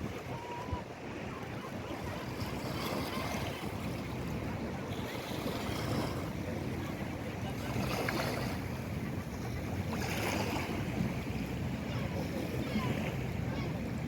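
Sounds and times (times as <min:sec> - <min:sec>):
water washing against pier: 0:00.0 - 0:14.0
wind on microphone: 0:00.0 - 0:14.0.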